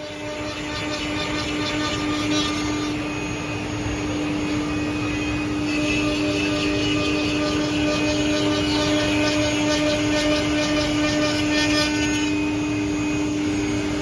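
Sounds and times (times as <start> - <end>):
higher machine tone: 0.0 - 14.0
mortising machine running: 0.0 - 14.0.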